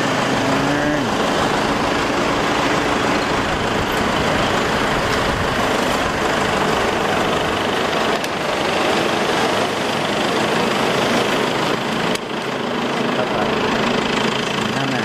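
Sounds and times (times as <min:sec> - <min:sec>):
engine rumbling: 0:00.0 - 0:15.0
road noise hiss: 0:00.0 - 0:15.0.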